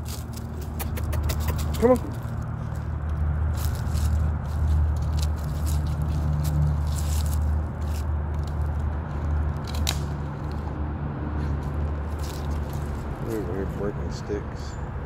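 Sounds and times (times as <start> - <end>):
dry leaves crunching underfoot: 0.0 - 14.0.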